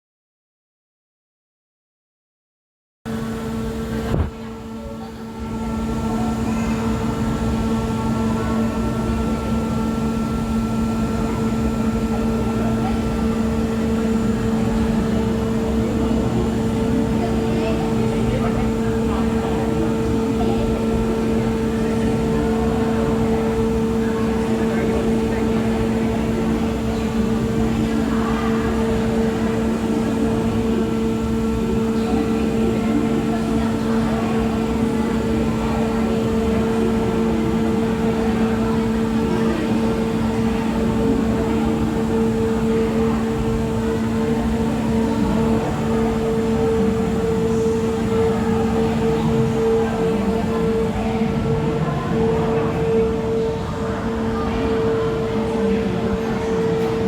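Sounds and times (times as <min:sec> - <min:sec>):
electrical hum and rumble: 0:03.1 - 0:54.6.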